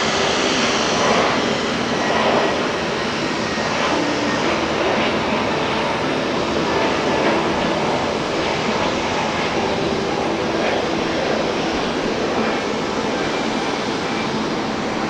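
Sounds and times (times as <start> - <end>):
jet engines at takeoff: 0.0 - 15.0.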